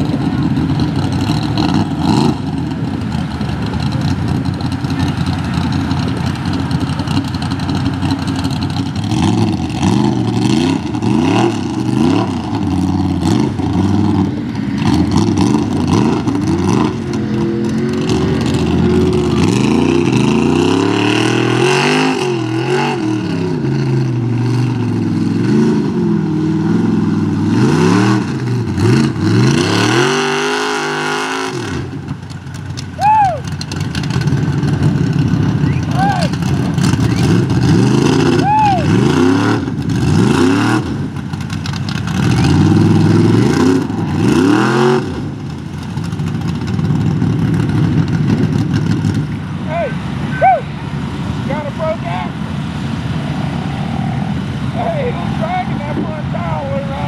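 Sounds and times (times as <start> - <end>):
truck engine revving hard: 0.0 - 32.3, 33.0 - 57.0.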